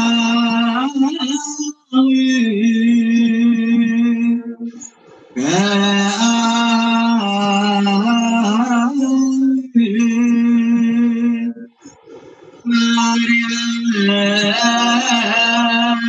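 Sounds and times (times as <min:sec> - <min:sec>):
man singing a slow chant: 0:00.0 - 0:12.0, 0:12.6 - 0:16.0.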